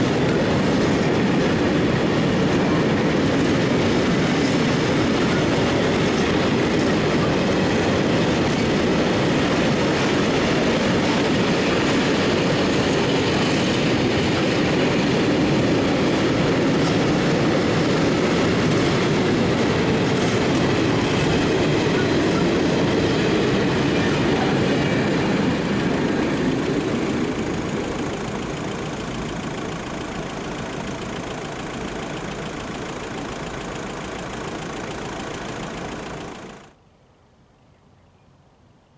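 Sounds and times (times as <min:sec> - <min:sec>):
train wheels rumbling on rails: 0:00.0 - 0:36.8.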